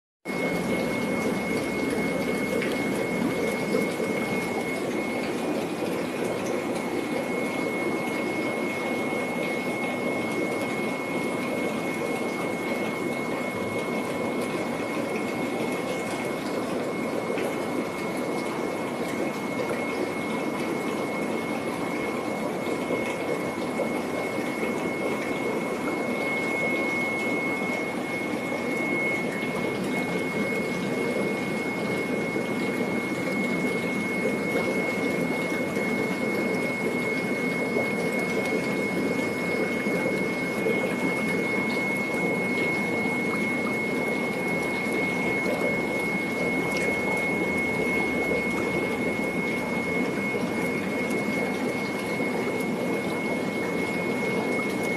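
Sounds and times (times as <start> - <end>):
running water: 0.3 - 54.9
water pump rushing: 0.3 - 54.9.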